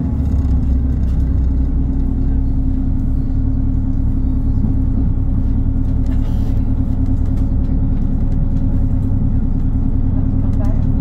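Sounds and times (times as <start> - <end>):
diesel engine hum: 0.0 - 11.0
wheels rumbling on rails: 0.0 - 11.0.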